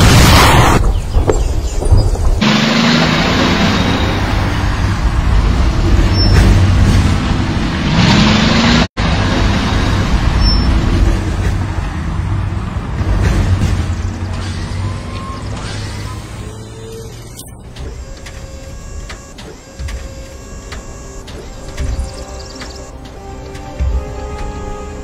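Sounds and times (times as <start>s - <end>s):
heavy vehicle rumble: 0.0s - 25.0s.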